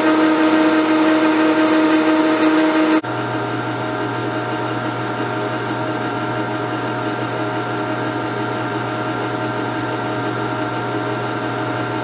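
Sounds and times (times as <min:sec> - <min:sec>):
metal lathe humming: 0:00.0 - 0:12.0.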